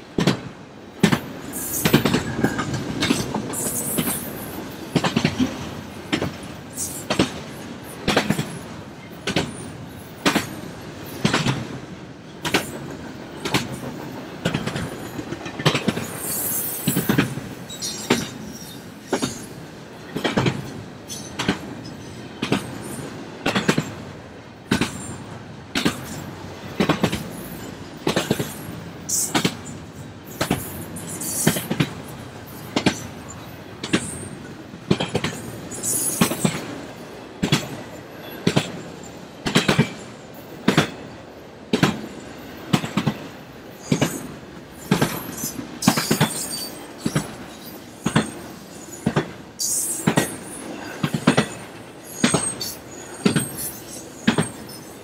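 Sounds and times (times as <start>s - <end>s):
steady rumble of freight cars: 0.0s - 55.0s
train wheels clacking: 0.1s - 11.8s, 12.4s - 41.1s, 41.7s - 55.0s.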